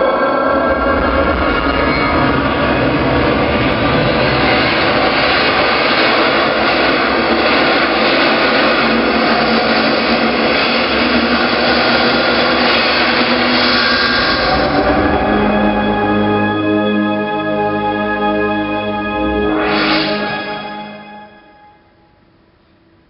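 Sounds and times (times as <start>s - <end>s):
jet-like rushing drone: 0.0s - 21.5s
sustained tones: 0.0s - 22.0s.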